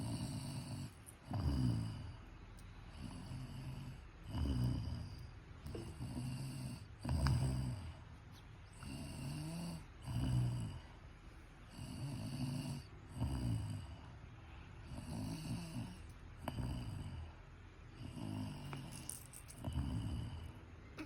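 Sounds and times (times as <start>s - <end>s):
woman snoring: 0.0s - 2.2s, 2.9s - 8.0s, 8.7s - 10.9s, 11.7s - 14.0s, 14.8s - 17.4s, 18.0s - 20.5s.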